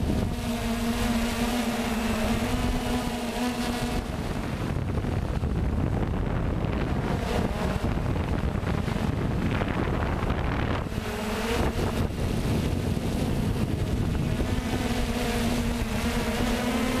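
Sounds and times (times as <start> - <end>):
drone propellers humming: 0.0 - 17.0
wind buffeting microphone: 0.0 - 17.0.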